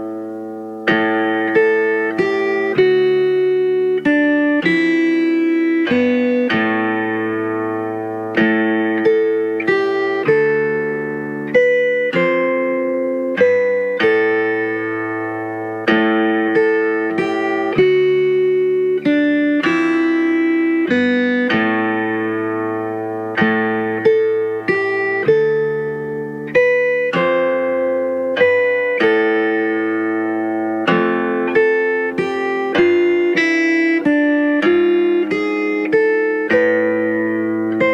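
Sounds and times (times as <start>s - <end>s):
plucked guitar melody: 0.0s - 37.9s.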